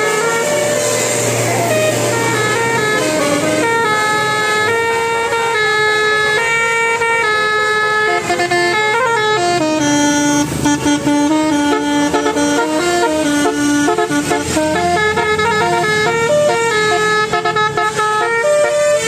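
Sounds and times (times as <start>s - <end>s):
musical horn playing melody: 0.0s - 19.0s.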